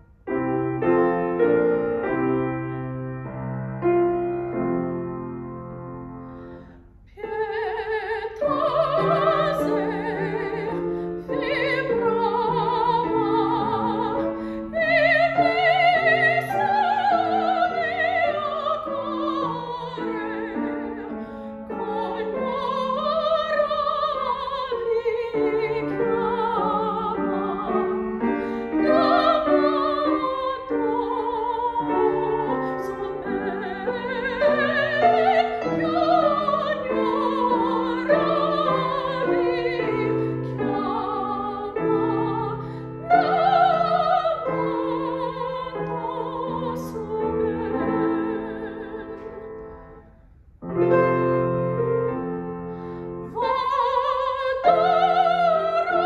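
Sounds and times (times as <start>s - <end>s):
grand piano: 0.0s - 56.0s
soprano singing with vibrato: 7.1s - 49.8s, 53.2s - 56.0s.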